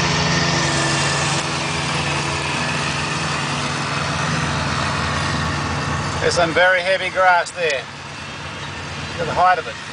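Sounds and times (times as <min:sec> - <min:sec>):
diesel mower engine running: 0:00.0 - 0:09.9
mower blades cutting grass: 0:00.0 - 0:09.9.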